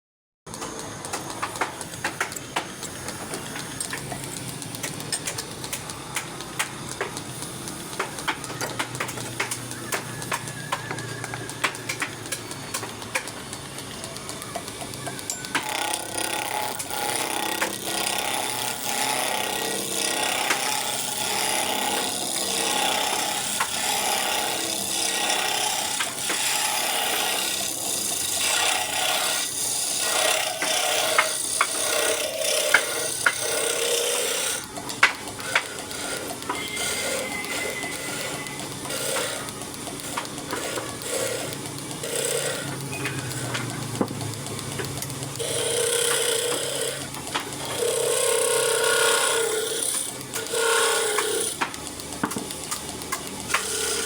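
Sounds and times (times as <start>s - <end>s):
sharp clicks and knocks: 0.5s - 54.0s.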